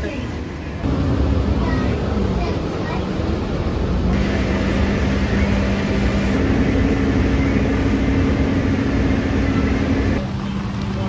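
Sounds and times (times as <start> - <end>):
vehicle engine rumble and hum: 0.0 - 11.0.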